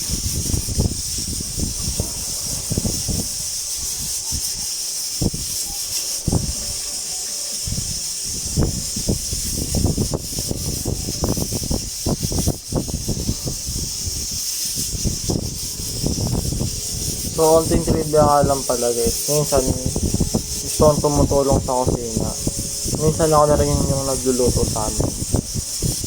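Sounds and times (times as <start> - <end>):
pressure cooker hissing steam: 0.0 - 26.0.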